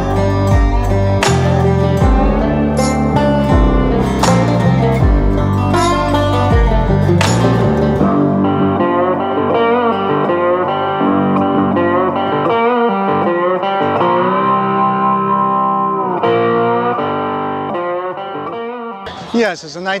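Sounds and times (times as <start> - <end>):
guitar background music: 0.0 - 20.0.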